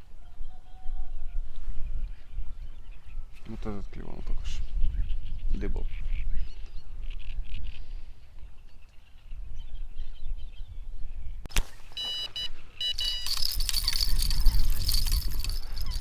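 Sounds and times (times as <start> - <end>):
wind buffeting microphone: 0.0 - 11.5, 13.0 - 16.0.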